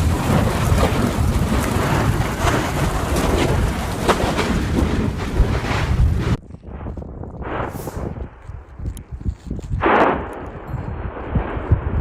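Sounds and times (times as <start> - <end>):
volcanic eruption rumbling: 0.0 - 12.0
wind buffeting microphone: 0.0 - 12.0.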